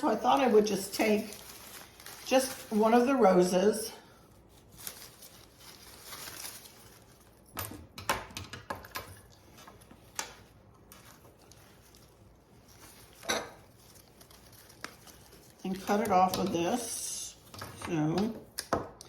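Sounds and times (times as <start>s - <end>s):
flower stems rustling: 0.0s - 7.5s, 9.2s - 17.6s.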